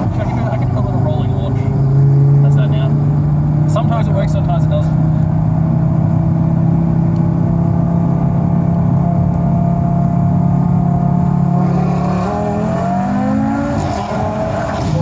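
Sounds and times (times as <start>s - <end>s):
car engine revving hard: 0.0s - 15.0s.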